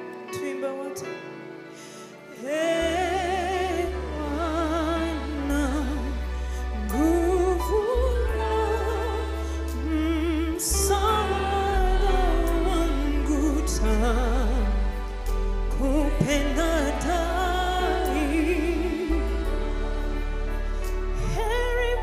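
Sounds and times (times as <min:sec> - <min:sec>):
choir singing: 0:02.4 - 0:22.0
low accompaniment: 0:02.8 - 0:22.0.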